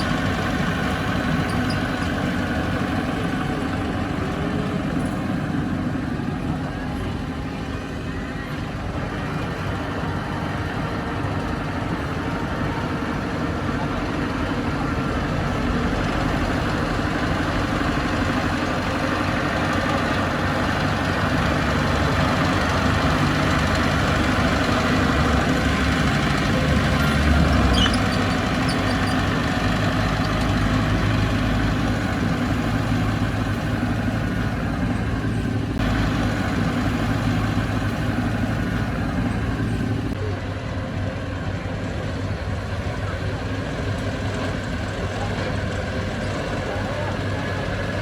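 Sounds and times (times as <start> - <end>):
heavy diesel machinery rumble: 0.0 - 48.0.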